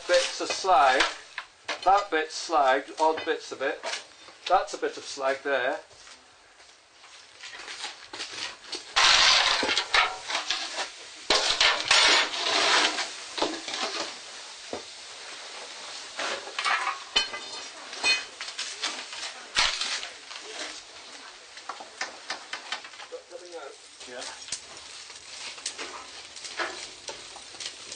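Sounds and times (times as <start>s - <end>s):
metal tools scraping charcoal: 0.0s - 5.4s, 7.4s - 14.2s, 15.8s - 27.9s.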